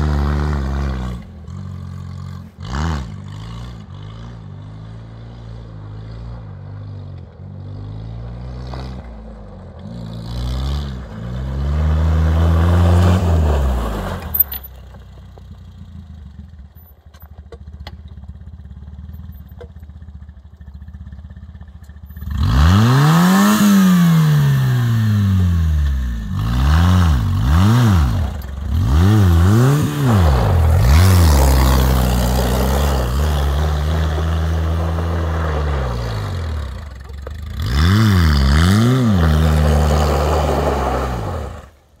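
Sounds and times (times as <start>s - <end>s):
buggy engine idling and revving: 0.0s - 42.0s.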